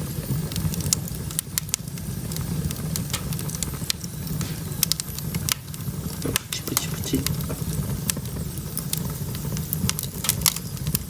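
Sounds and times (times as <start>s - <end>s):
firewood crackling and popping: 0.0s - 11.0s.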